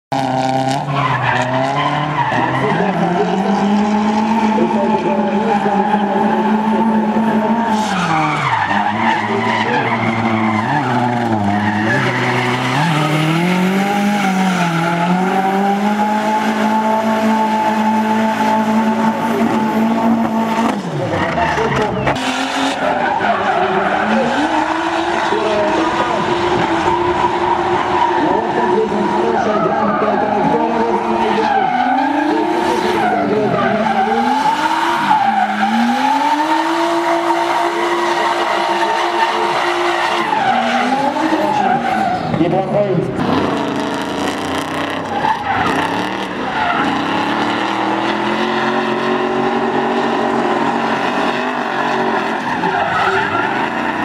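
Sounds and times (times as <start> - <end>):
car engines revving: 0.1 - 54.0
tyres squealing: 0.8 - 43.8, 44.7 - 54.0.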